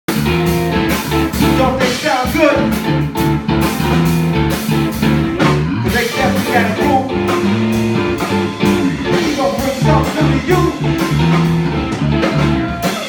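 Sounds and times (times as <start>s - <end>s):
live blues rock band playing: 0.1s - 13.0s.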